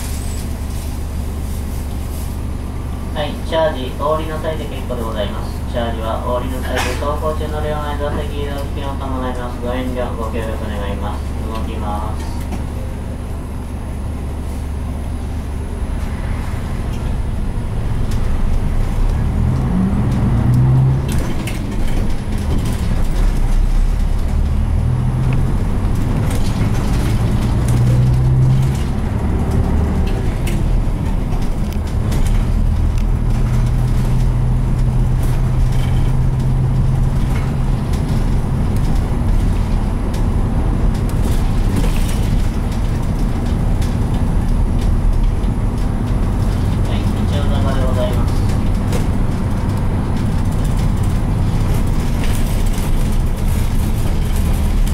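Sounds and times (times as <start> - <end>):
bus diesel engine accelerating: 0.0 - 54.9.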